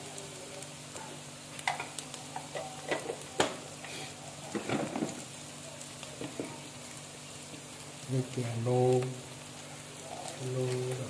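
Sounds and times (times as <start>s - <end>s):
onions frying in oil: 0.0s - 11.0s.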